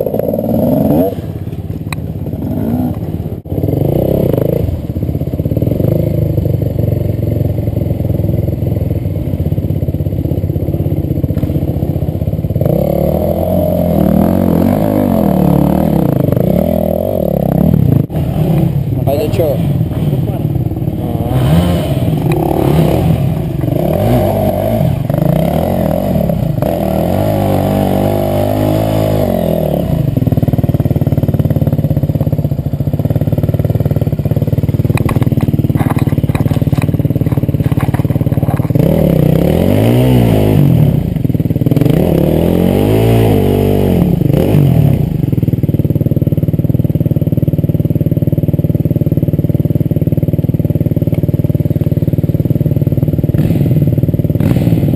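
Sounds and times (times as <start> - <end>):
motorcycle engine revving: 0.0 - 54.9
motorcycle engines running: 0.0 - 54.9.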